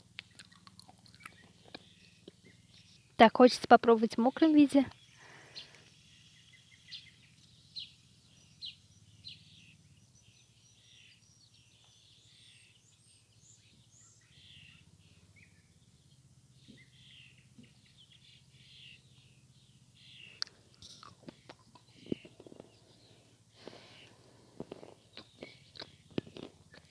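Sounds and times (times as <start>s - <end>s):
small birds chirping and singing: 0.0s - 26.9s.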